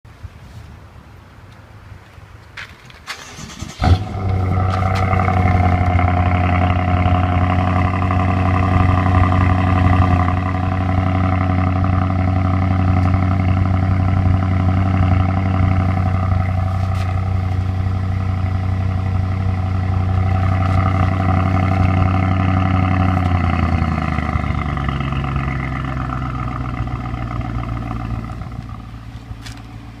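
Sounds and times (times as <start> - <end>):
motorcycle exhaust idling: 4.0 - 30.0.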